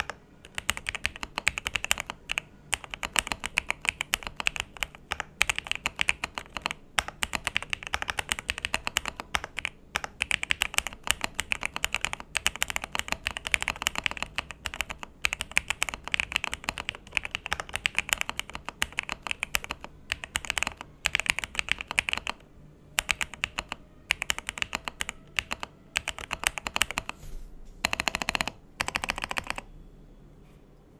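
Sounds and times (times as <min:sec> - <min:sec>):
mechanical keyboard typing: 0:00.0 - 0:22.4, 0:23.0 - 0:27.2, 0:27.8 - 0:29.7.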